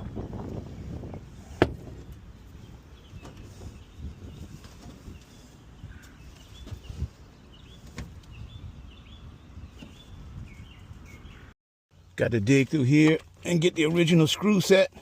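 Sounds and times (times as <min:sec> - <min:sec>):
small birds chirping: 0:00.6 - 0:14.6.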